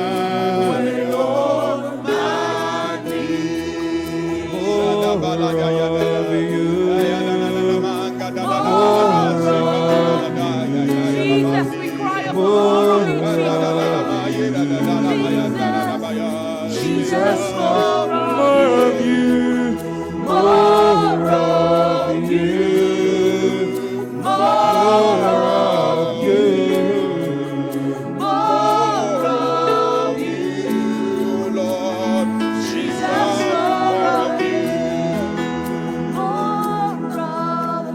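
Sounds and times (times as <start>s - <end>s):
instrumental backing: 0.0s - 37.9s
worship team singing: 0.0s - 37.9s.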